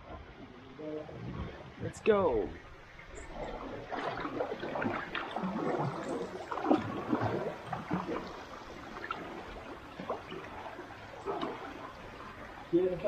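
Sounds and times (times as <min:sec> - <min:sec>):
paddle strokes splashing: 0:02.5 - 0:13.0
water trickling off paddle: 0:02.5 - 0:13.0.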